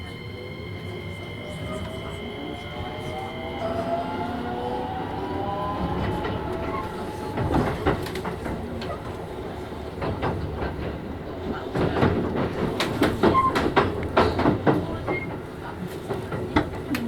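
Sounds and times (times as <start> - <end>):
wheels squeaking: 0.0 - 16.3
train wheels clattering over rails: 0.8 - 17.0.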